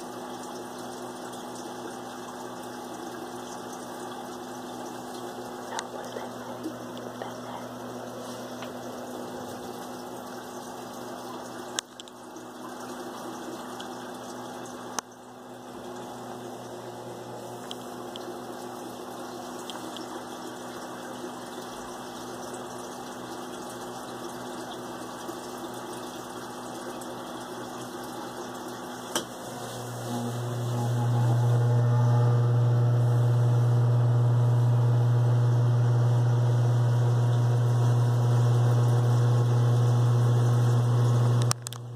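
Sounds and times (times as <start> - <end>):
aquarium pump humming: 0.0 - 41.9
water trickling: 0.0 - 41.9.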